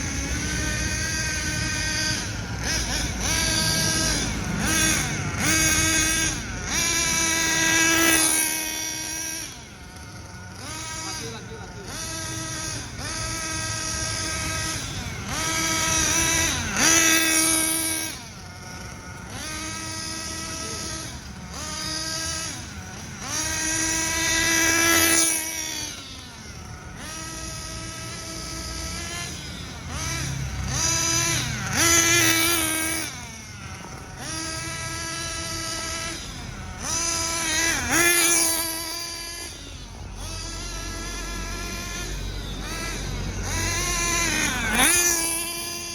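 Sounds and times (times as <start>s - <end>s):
rc buggy engine buzzing: 0.0s - 45.9s.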